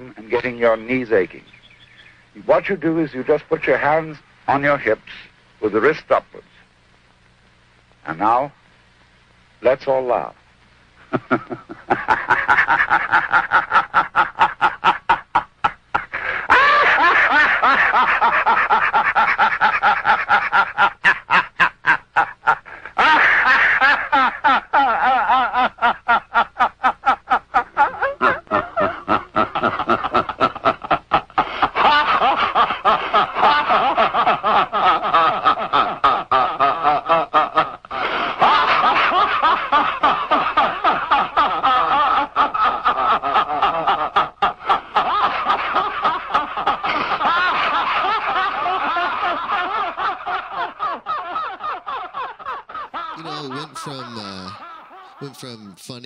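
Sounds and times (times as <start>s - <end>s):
group of people laughing: 11.1s - 56.0s.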